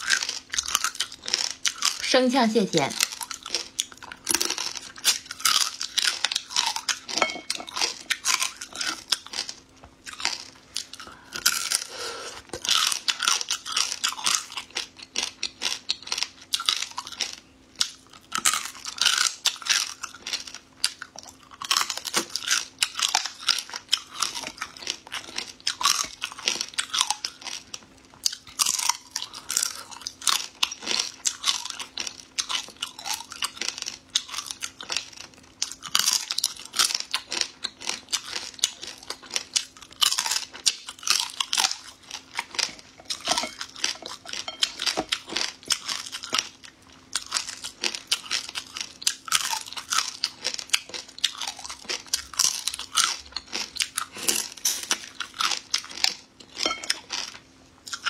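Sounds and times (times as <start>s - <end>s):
crunching prawn shells: 0.0s - 2.2s, 2.9s - 58.0s.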